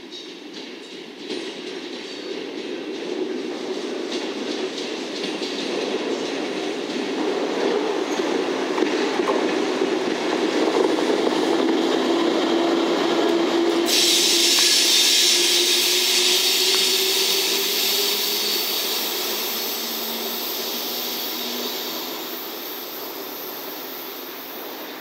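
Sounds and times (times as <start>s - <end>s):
locomotive wheels rumbling on rails: 0.2s - 25.0s.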